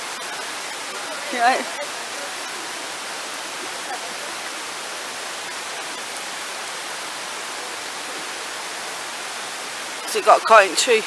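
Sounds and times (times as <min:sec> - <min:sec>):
rain hissing: 0:00.0 - 0:11.0
rushing water: 0:00.0 - 0:11.0.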